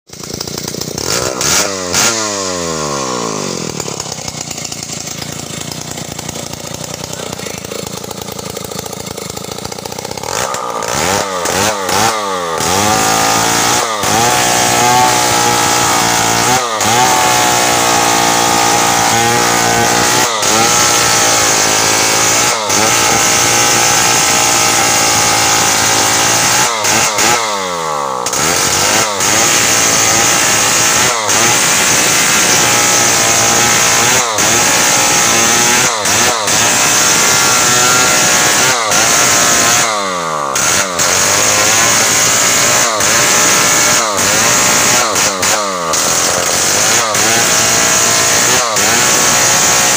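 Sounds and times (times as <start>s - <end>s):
chainsaw cutting tree trunk: 0.1s - 49.9s
chainsaw engine revving: 0.1s - 49.9s.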